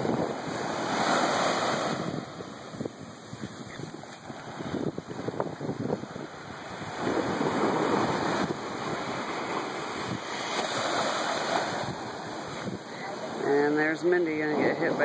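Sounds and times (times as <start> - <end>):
surf washing up sand: 0.0 - 15.0.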